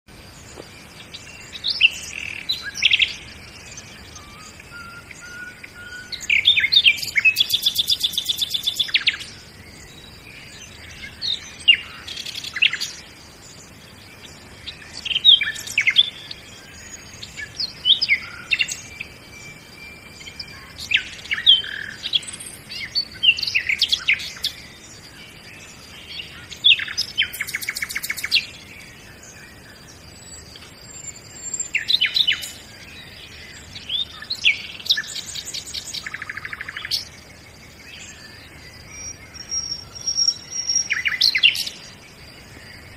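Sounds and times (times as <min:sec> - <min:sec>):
birds chirping and whistling: 0:00.2 - 0:42.9.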